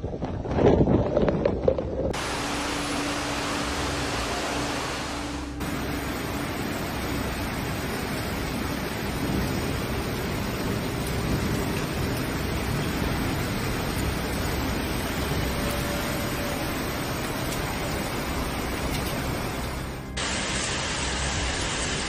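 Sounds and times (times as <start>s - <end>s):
floodwater rushing: 2.2s - 22.0s.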